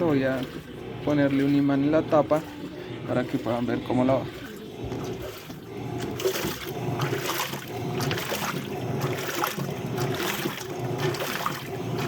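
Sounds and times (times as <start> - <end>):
low motor hum: 0.0 - 12.0
water sloshing in washing machine: 0.0 - 12.0.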